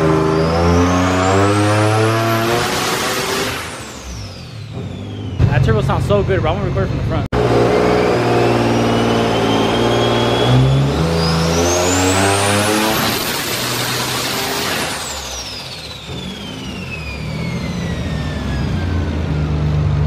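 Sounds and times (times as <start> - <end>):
car engine revving at full throttle: 0.0 - 20.0
turbo whine: 0.0 - 20.0.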